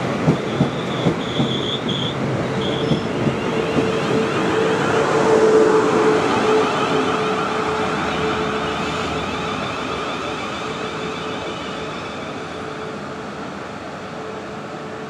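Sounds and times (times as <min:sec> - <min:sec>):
train wheel-and-rail rumble: 0:00.0 - 0:15.0.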